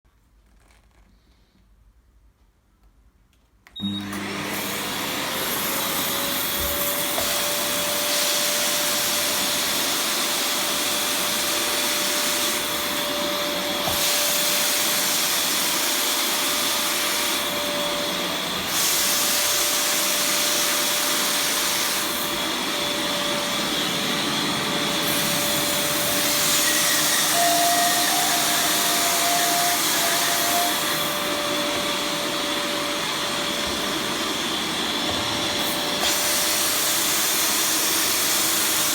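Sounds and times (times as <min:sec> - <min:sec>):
vacuum cleaner motor whine: 0:03.7 - 0:38.9.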